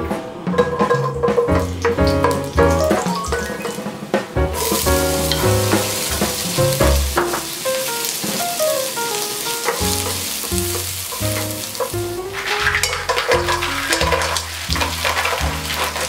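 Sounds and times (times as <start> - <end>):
melodic background music: 0.7 - 14.4
garlic and onion sizzling in oil: 0.9 - 3.8, 4.5 - 16.0.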